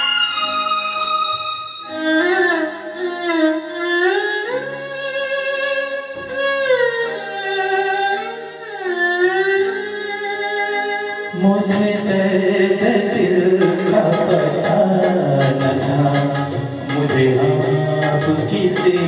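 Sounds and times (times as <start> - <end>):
sliding string melody: 0.0 - 19.0.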